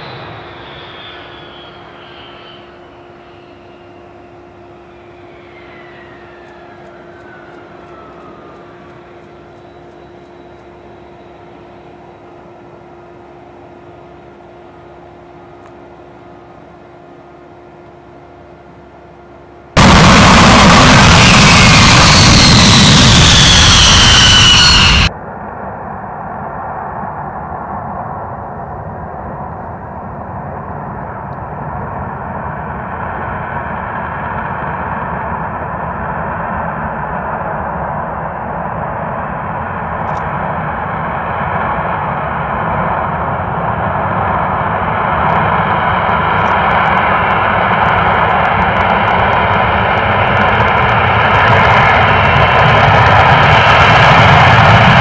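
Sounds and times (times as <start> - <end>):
fighter jet engine whine: 0.0 - 55.0.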